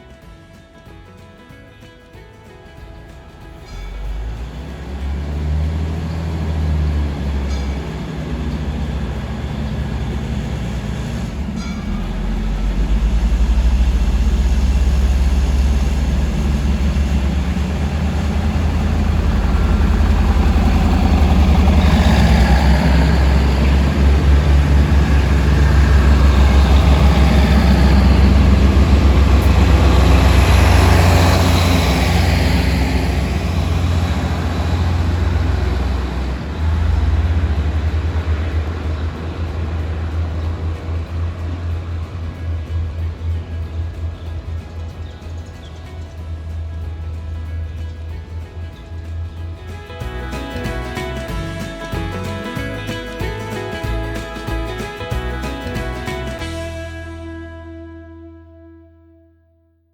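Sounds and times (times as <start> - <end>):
wheel and rail noise: 0.0 - 58.2
diesel train engine drone: 3.6 - 58.8.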